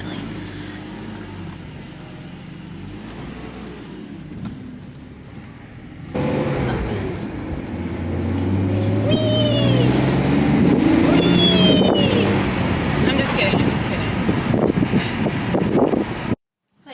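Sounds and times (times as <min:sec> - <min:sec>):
car engine humming: 0:00.0 - 0:16.9.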